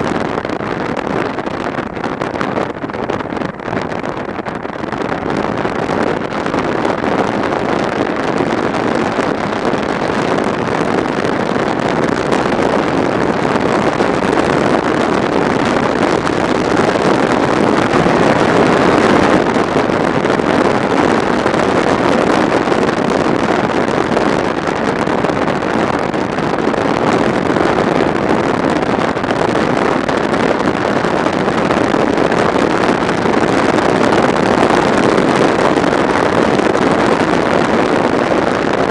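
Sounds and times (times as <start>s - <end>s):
motorcycle road and engine noise: 0.0s - 38.9s
wind over microphone: 0.0s - 38.9s.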